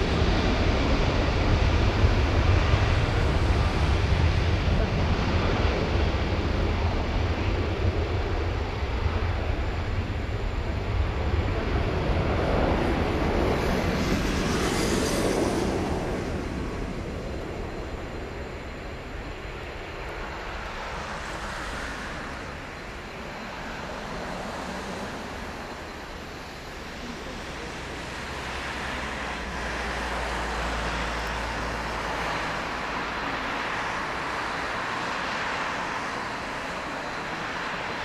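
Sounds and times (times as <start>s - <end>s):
jet engines running at low thrust: 0.0s - 38.0s.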